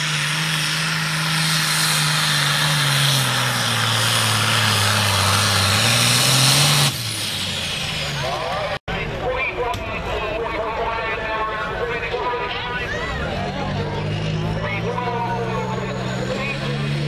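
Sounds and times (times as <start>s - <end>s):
diesel tractor engine at full power: 0.0s - 17.0s.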